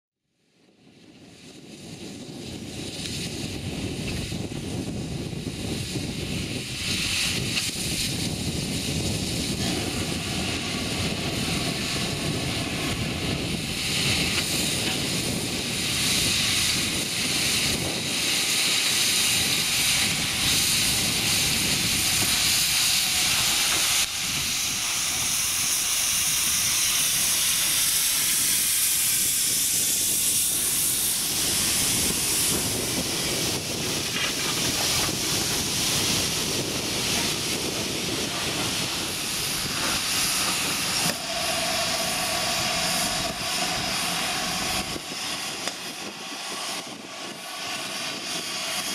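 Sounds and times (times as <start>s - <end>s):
loud hiss of steam: 0.6s - 48.9s
low rumble of engine and wheels: 0.8s - 48.9s.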